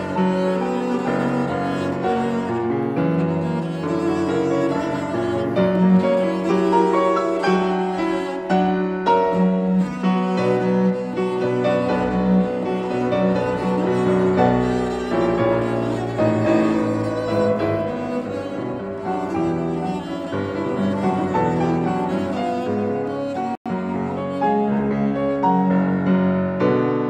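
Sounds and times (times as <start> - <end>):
bowed string notes: 0.0 - 26.7
piano: 0.0 - 27.0.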